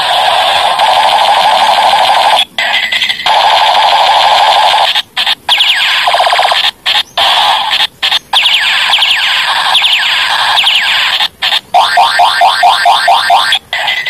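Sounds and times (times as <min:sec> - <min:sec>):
toy gun electronic gunfire: 0:00.0 - 0:14.0.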